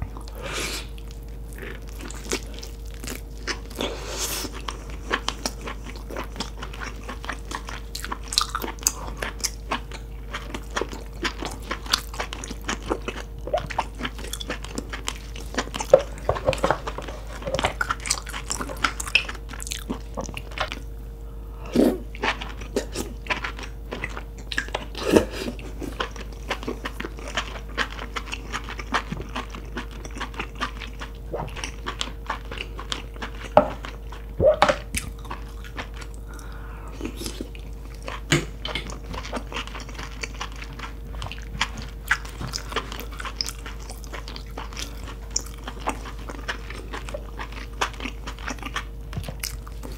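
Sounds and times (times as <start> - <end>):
chewing with mouth clicks: 0.0 - 20.9, 21.7 - 49.9
faint steady hum: 0.0 - 49.9.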